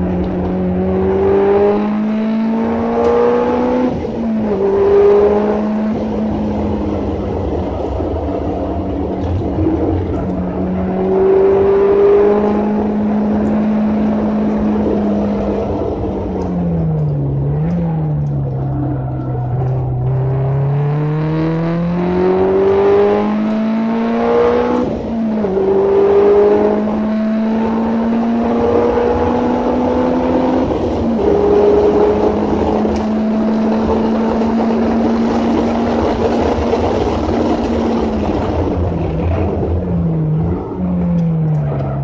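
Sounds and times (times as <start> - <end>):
car engine accelerating hard: 0.0 - 42.0.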